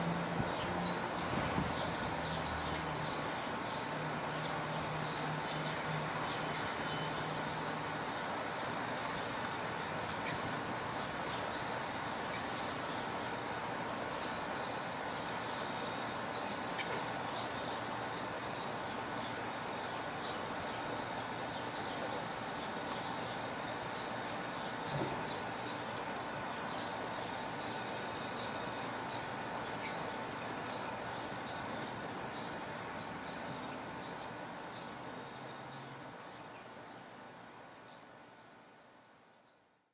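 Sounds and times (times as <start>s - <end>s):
steady background hum: 0.0s - 39.9s
small bird chip calls: 0.4s - 37.1s.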